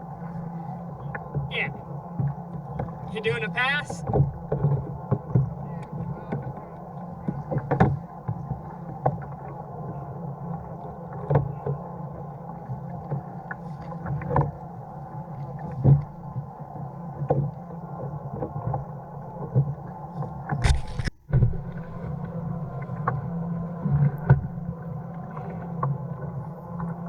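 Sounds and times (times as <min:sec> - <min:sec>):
knocks and water splashes: 0:01.0 - 0:16.5, 0:17.1 - 0:27.0.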